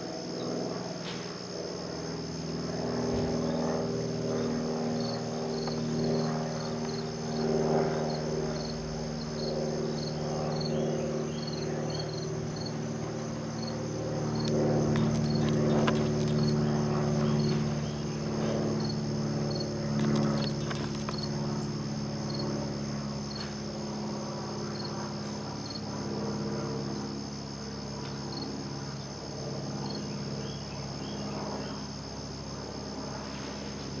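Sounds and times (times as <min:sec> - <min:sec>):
insects trilling: 0:00.0 - 0:34.0
low steady hum: 0:00.0 - 0:34.0.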